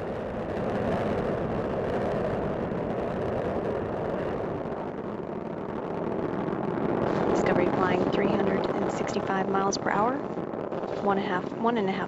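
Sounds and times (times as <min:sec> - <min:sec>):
rocket engines thundering: 0:00.0 - 0:12.0.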